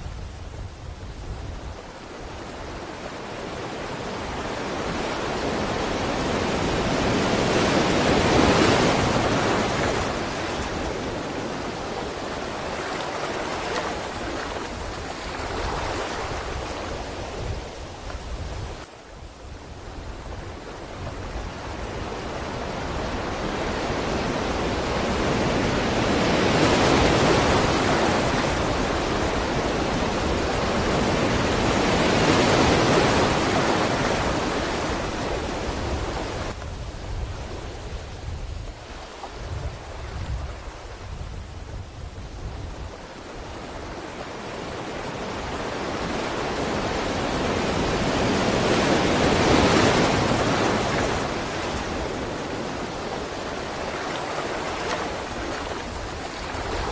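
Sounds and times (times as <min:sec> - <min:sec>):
ocean waves breaking: 0:01.6 - 0:19.0, 0:19.6 - 0:36.6, 0:37.2 - 0:56.9.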